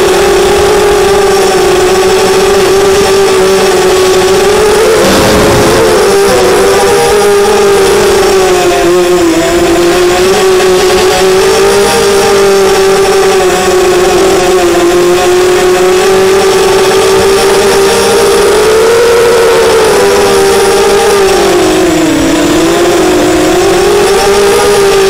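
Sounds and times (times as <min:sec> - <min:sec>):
quadcopter motors whining: 0:00.0 - 0:25.0.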